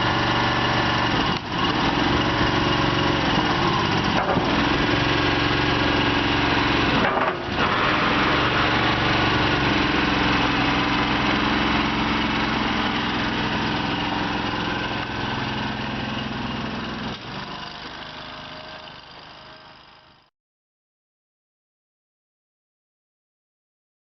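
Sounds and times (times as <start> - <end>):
v-twin engine running: 0.0 - 20.2.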